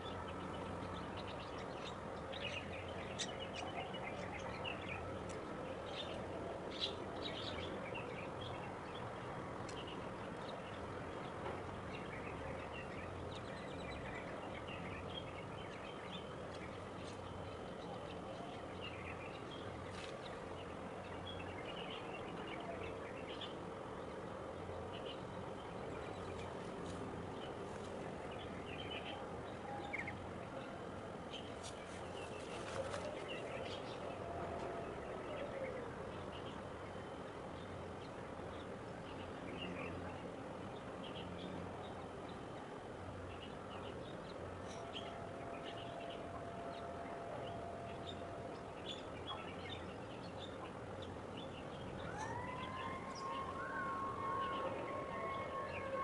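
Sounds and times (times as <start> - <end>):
outdoor background noise: 0.0 - 56.0.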